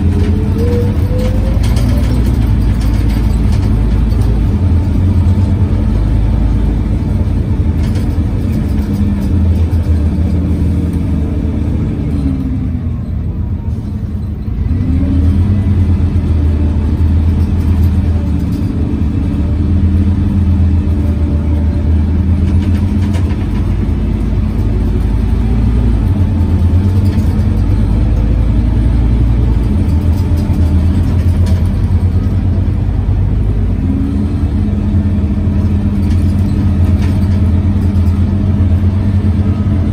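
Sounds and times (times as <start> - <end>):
bus engine cooling fan: 0.0 - 39.9.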